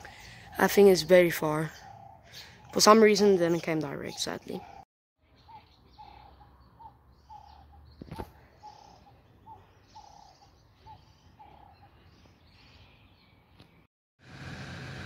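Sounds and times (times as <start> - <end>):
birds chirping faintly: 0.0 - 13.9.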